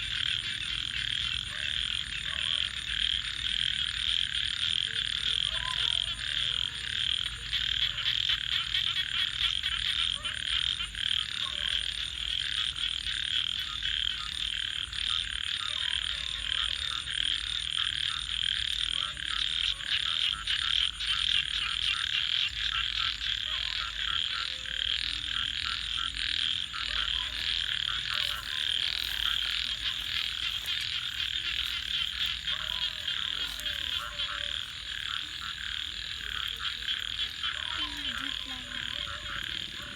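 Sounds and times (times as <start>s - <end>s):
frog chorus calling: 0.0s - 39.9s.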